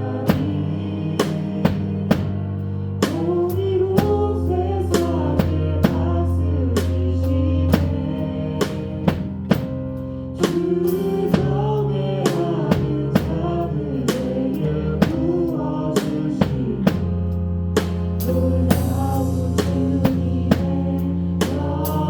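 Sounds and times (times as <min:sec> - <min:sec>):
drum kit beat: 0:00.0 - 0:22.0
keyboard and bass chords: 0:00.0 - 0:22.0.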